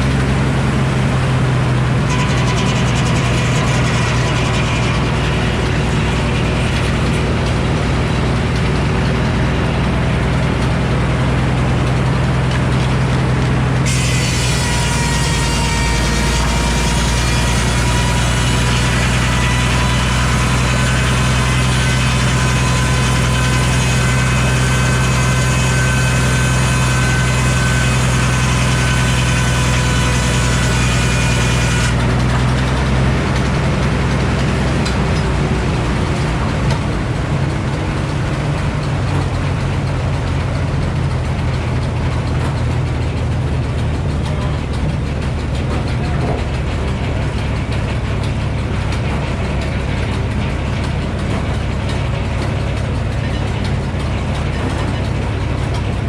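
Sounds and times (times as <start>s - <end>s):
circular saw cutting log: 0.0s - 56.0s
sawmill engine running: 0.0s - 56.0s.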